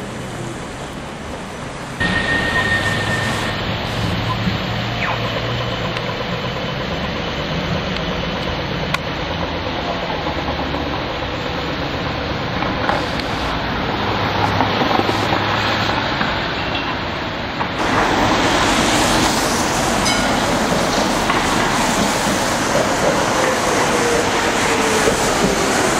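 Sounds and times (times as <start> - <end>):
tram rolling past: 0.0 - 25.9
tyres hissing on wet road: 0.0 - 25.9.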